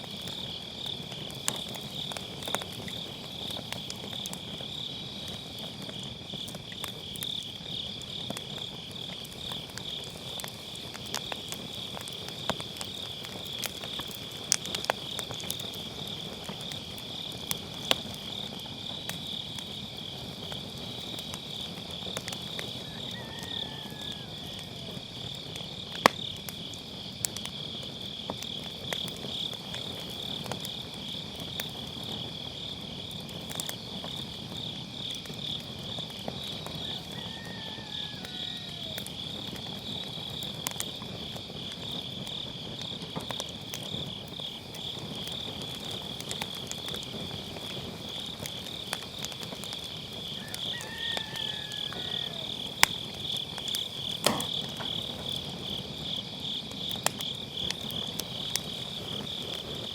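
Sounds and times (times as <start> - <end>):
crickets trilling: 0.0 - 59.9
fire popping: 0.0 - 59.9
wood fire crackling: 0.0 - 59.9.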